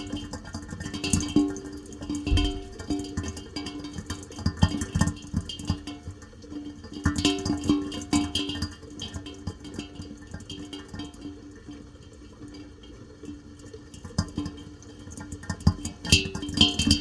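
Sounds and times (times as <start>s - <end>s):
rain dripping: 0.0s - 17.0s.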